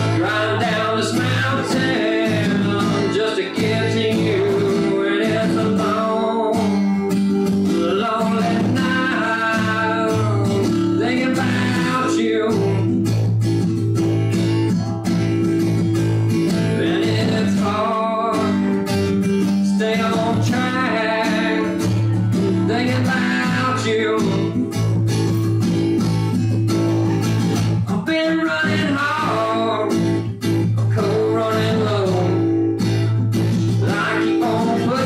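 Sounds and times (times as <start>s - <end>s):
man singing: 0.0s - 13.4s, 16.3s - 25.2s, 26.9s - 35.0s
acoustic guitar: 0.0s - 35.0s.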